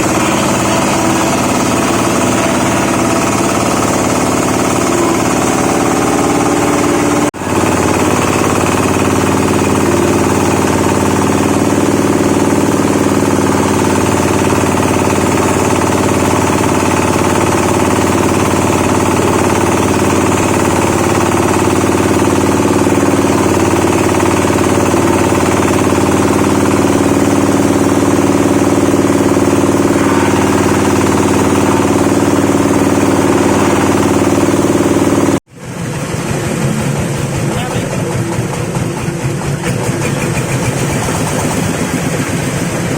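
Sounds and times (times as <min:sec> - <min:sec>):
wood chipper running: 0:00.0 - 0:42.9.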